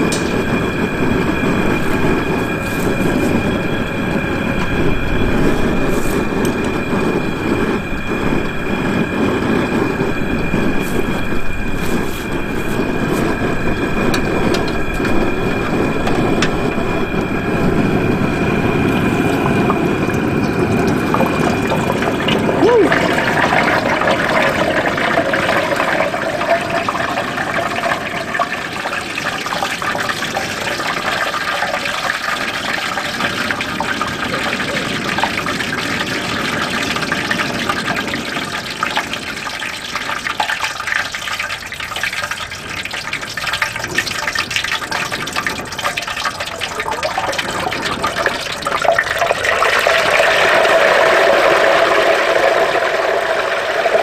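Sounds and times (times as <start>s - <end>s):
hot oil sizzling and bubbling: 0.0s - 54.0s.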